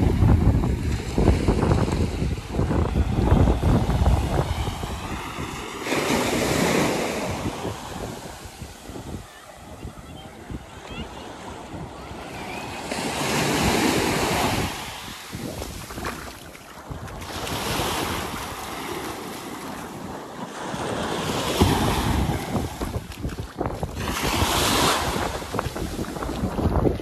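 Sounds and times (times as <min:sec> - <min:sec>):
small waves washing on sand: 0:00.0 - 0:27.0
wind buffeting microphone: 0:00.0 - 0:27.0.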